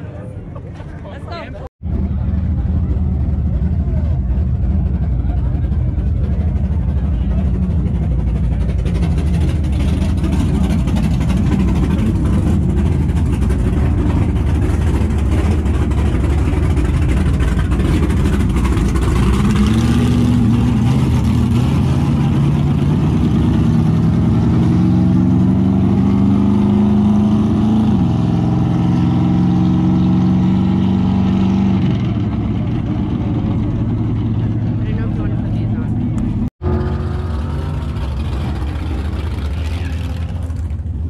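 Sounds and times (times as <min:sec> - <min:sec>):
truck engines revving: 0:00.0 - 0:41.0.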